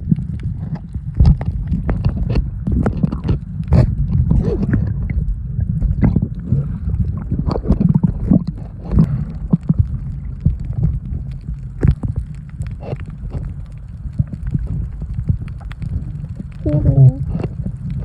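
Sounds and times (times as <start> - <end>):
low water rumble: 0.0 - 18.0
water knocks and gurgling: 0.0 - 18.0.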